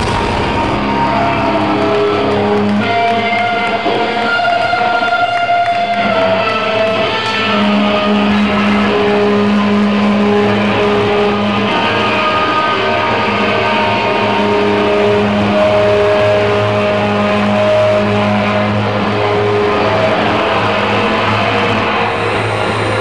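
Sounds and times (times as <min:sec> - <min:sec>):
distorted electric guitar: 0:00.0 - 0:23.0.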